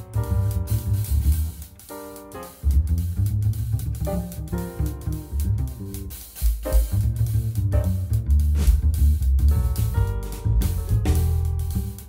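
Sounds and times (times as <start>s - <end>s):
music with guitar bass and drums: 0.0s - 12.0s.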